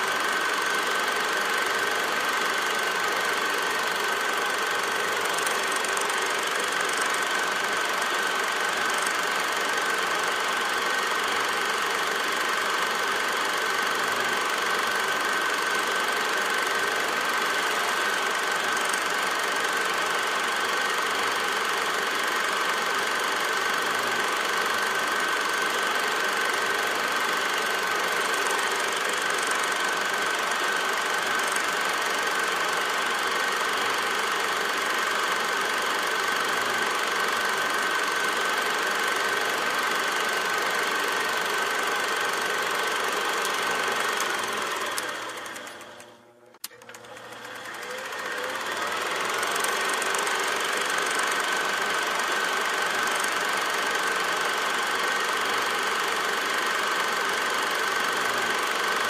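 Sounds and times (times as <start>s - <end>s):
small machine clattering and whining: 0.0s - 59.0s.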